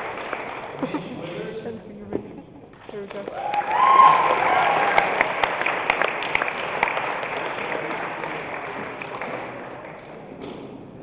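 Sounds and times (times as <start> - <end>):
audience applause: 0.0 - 1.6, 2.8 - 10.3.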